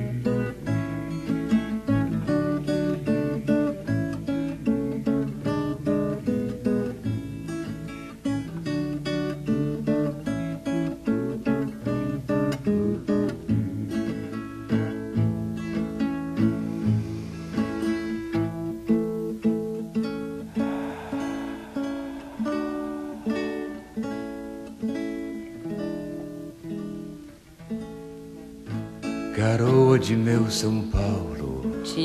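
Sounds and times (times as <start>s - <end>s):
acoustic guitar plucked notes: 0.0s - 32.0s.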